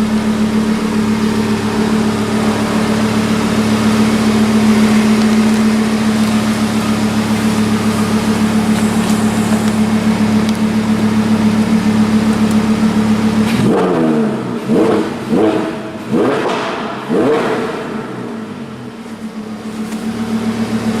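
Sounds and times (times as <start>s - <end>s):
engine revving: 0.0s - 21.0s
sports car engine idling loudly: 0.0s - 21.0s.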